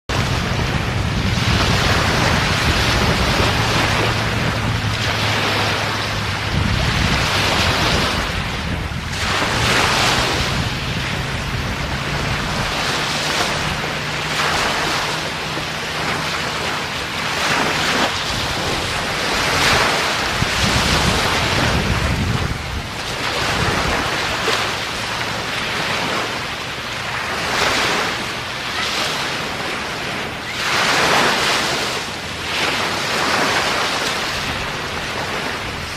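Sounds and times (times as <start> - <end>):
sea waves breaking on beach: 0.1 - 35.9
wind rumbling on microphone: 0.1 - 35.9.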